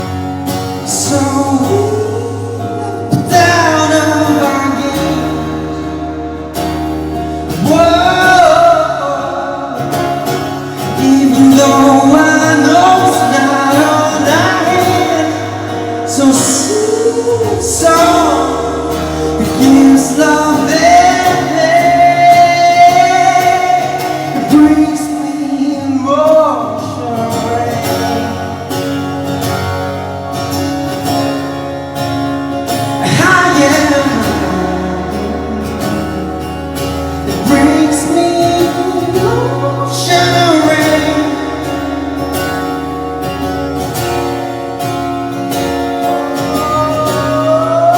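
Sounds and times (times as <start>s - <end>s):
instrumental backing: 0.0s - 47.9s.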